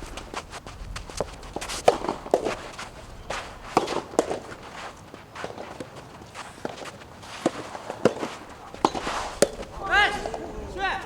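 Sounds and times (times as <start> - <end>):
players' footfalls: 0.0 - 11.0
tennis ball hits: 1.2 - 11.0.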